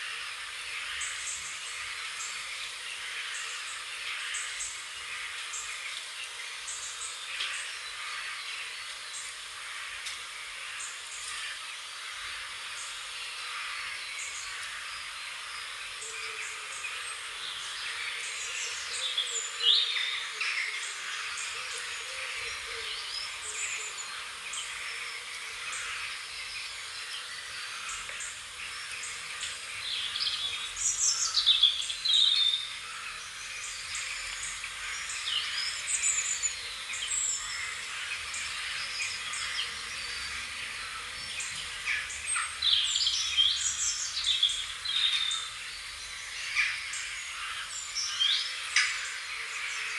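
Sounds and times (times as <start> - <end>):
steady background hiss: 0.0 - 49.9
birds chirping and singing: 0.1 - 49.9.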